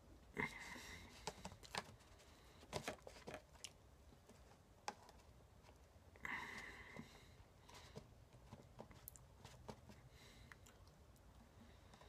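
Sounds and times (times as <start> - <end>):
faint clicks and taps: 1.1 - 5.8, 6.9 - 12.0.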